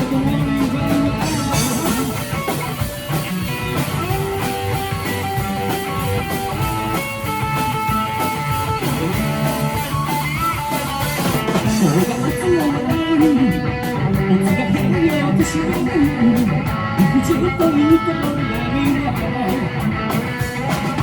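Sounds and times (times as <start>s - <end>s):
drum kit: 0.0s - 21.0s
electric guitar: 0.0s - 21.0s.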